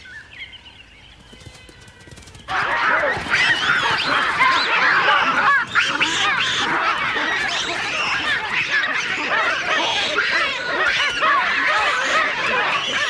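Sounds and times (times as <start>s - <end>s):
chorus of animal cries: 1.5s - 13.0s.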